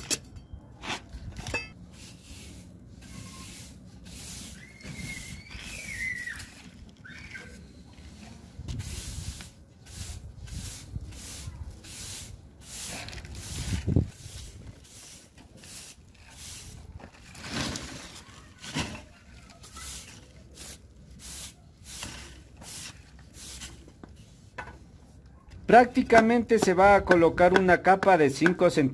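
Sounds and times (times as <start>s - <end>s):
broom sweeping cement floor: 0.8s - 27.6s.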